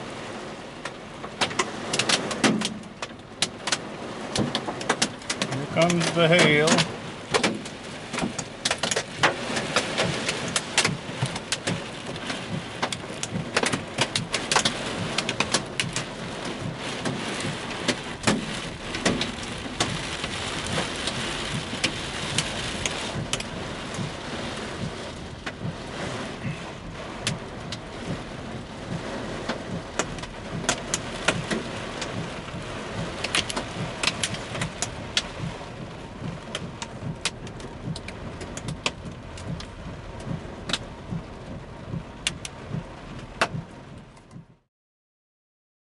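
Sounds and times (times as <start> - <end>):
heavy rain on car roof: 0.0 - 44.7
hailstones striking car: 0.1 - 44.5.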